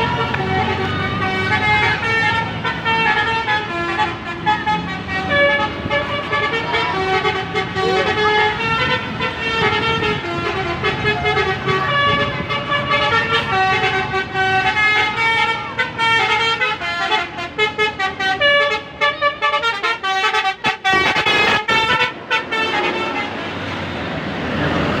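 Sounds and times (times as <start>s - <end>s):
musical air horn: 0.0s - 23.4s.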